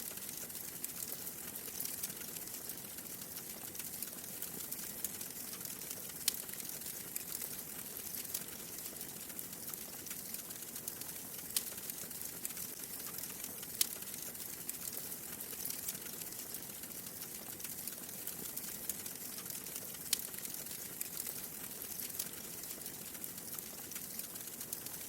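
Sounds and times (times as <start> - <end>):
wood fire crackling: 0.0 - 25.0
fire popping: 0.1 - 25.0.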